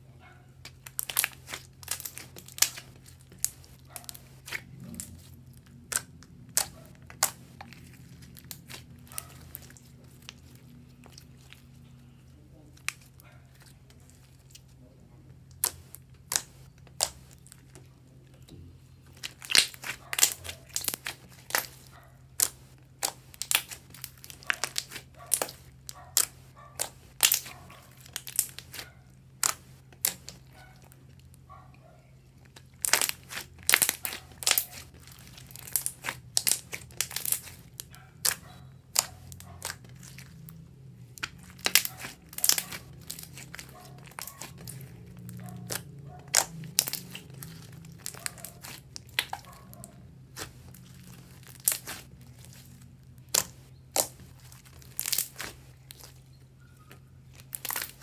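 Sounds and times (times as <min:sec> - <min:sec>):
slime crackling and popping: 0:00.6 - 0:11.9, 0:12.7 - 0:14.8, 0:15.4 - 0:31.5, 0:32.4 - 0:58.0.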